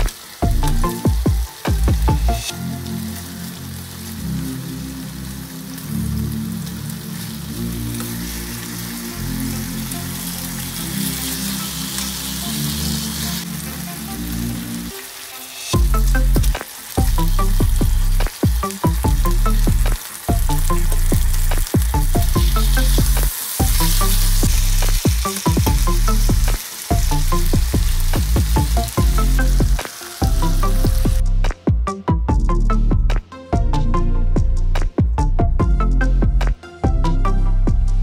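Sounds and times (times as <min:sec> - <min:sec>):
music with steady beat: 0:00.0 - 0:03.0, 0:09.1 - 0:38.0
meat sizzling in a frying pan: 0:00.0 - 0:31.3.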